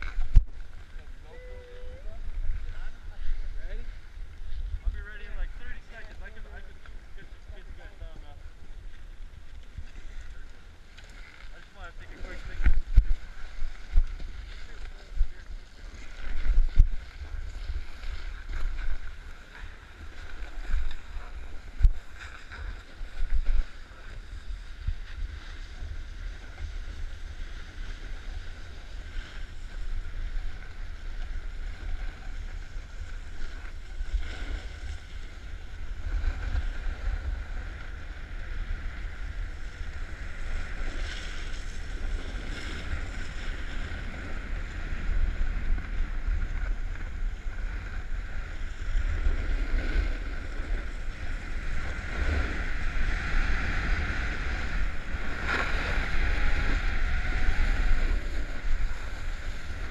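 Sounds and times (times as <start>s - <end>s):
wind rushing over microphone: 0.0s - 59.9s
skis scraping over snow: 2.5s - 59.9s.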